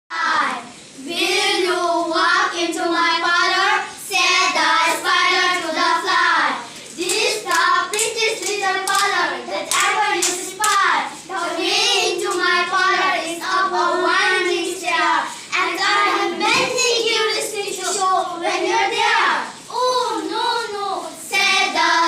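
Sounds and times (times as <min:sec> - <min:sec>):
children chanting: 0:00.1 - 0:22.0.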